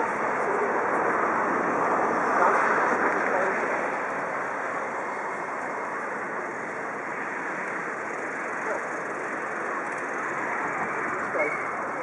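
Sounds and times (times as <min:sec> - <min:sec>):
distant crowd: 0:00.0 - 0:12.0
rail yard ambience: 0:00.0 - 0:12.0.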